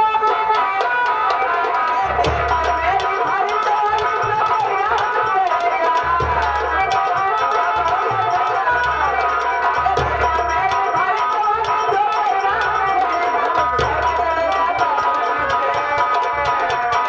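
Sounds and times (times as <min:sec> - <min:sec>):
hand drum: 0:00.0 - 0:17.0.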